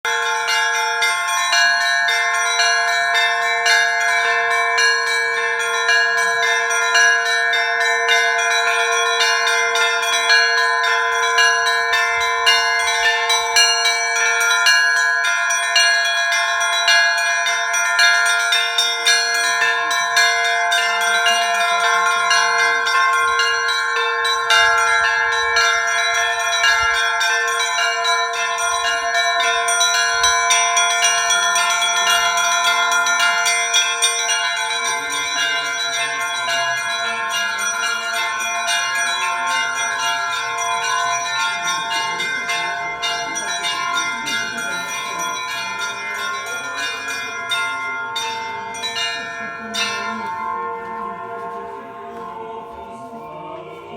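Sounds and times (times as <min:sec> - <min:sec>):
church bells pealing: 0:00.0 - 0:53.9
low bell ringing: 0:00.0 - 0:53.9.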